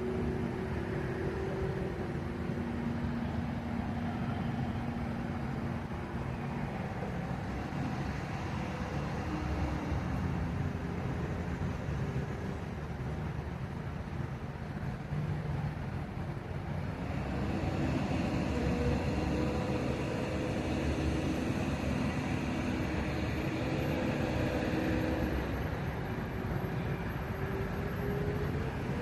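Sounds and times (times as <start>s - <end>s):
heavy engine rumbling: 0.0s - 29.0s.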